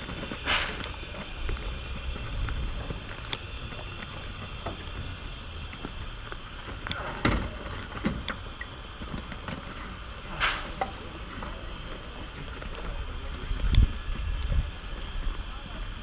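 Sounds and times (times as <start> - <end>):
steam hiss: 0.0 - 16.0
steam train rumbling: 0.0 - 16.0.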